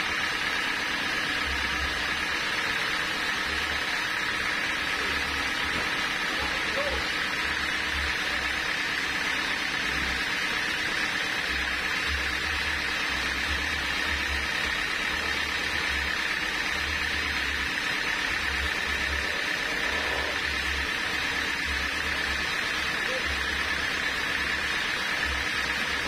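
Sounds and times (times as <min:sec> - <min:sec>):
band sawmill running: 0:00.0 - 0:26.0.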